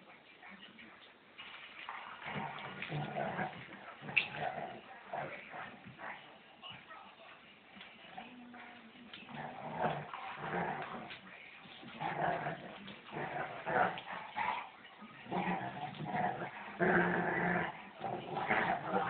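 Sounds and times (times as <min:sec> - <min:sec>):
dogs growling playfully: 0:01.9 - 0:06.3, 0:08.0 - 0:19.0.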